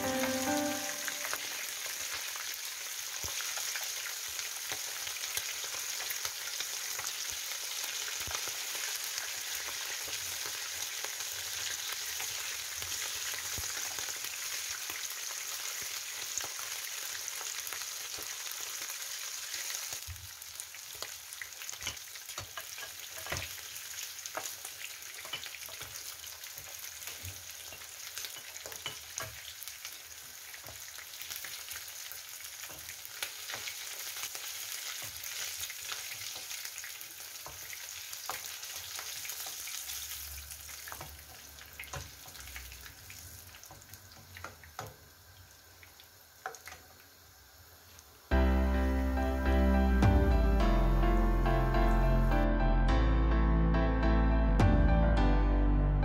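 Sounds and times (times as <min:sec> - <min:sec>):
chicken sizzling in hot oil: 0:00.0 - 0:49.0.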